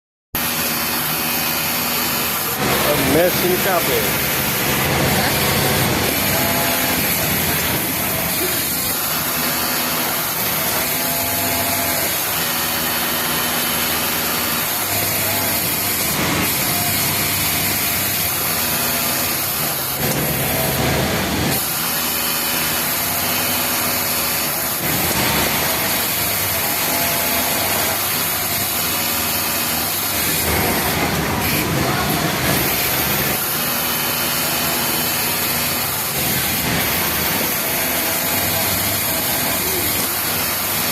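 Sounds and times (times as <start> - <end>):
loud machine noise: 0.4 - 40.9
overlock sewing machine stitching: 1.7 - 40.9.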